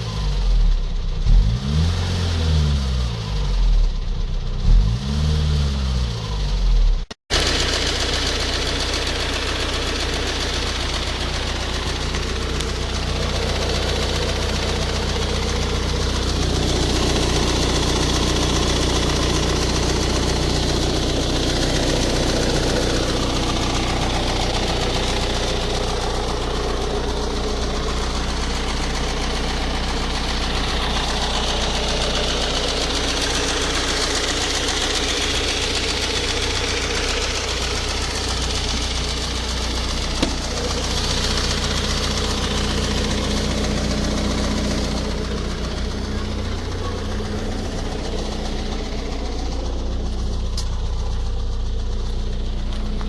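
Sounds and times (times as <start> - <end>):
diesel engine knocking and ticking: 0.0 - 53.0.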